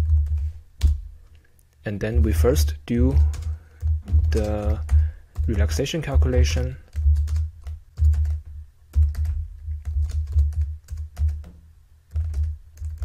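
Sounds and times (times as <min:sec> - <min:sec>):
keyboard typing: 0:00.0 - 0:01.0, 0:02.2 - 0:13.0.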